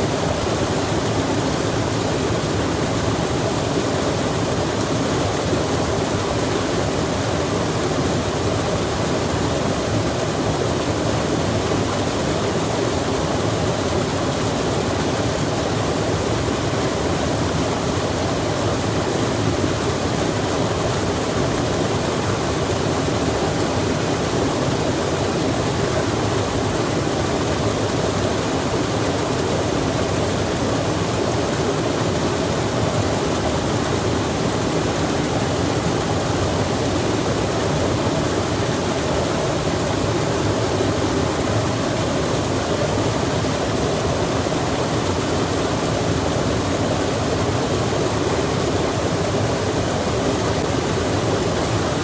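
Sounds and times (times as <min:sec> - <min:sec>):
running water rushing: 0:00.0 - 0:52.0.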